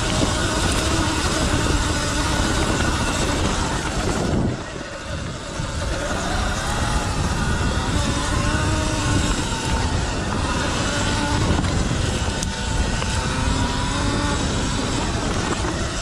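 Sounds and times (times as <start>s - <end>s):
electric motor whine: 0.0s - 16.0s
tyres on dirt: 0.0s - 16.0s
wind rumble: 0.0s - 16.0s.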